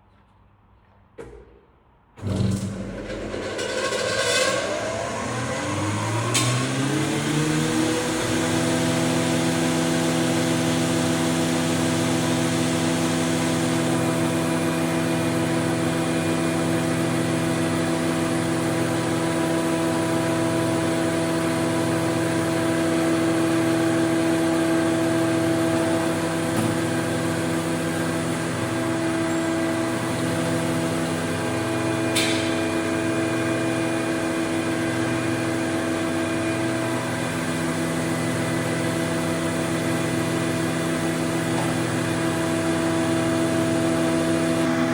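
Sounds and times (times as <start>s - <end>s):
planer running with hum and whine: 2.2s - 44.9s.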